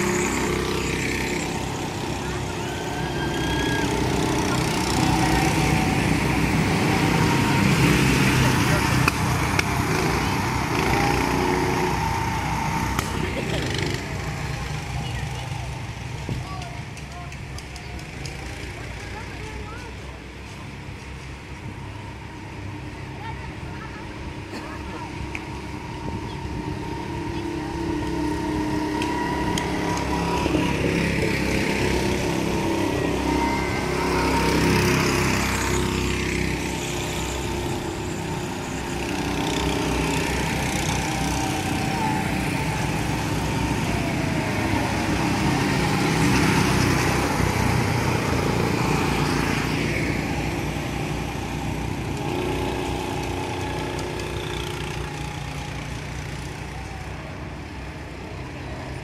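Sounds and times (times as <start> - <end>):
go-kart engines running: 0.0 - 59.0.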